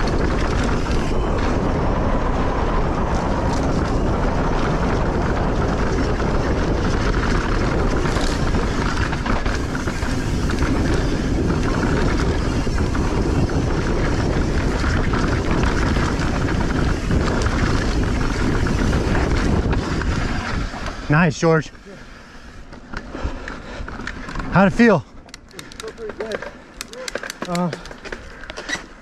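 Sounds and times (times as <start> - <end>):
bike rattling over bumps: 0.0 - 29.0
wind rushing over microphone: 0.0 - 29.0.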